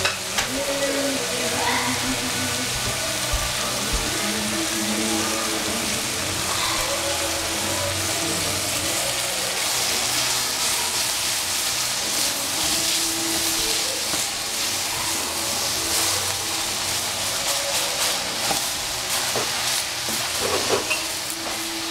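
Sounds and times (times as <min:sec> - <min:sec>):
cabbage sizzling in a saucepan: 0:00.0 - 0:21.9.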